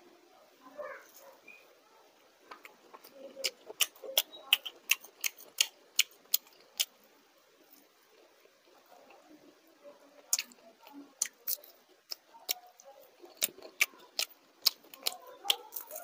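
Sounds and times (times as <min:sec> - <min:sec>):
crunching fried food: 0:02.4 - 0:16.0.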